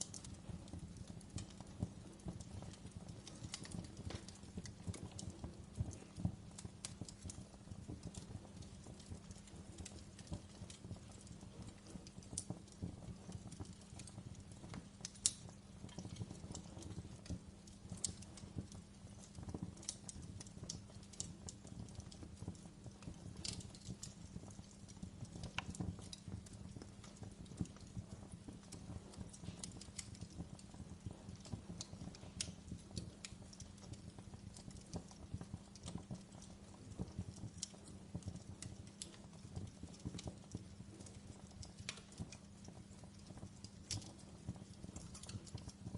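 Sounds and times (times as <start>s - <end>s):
logs crackling and popping: 0.0s - 45.9s
low rumble of flames: 0.0s - 45.9s.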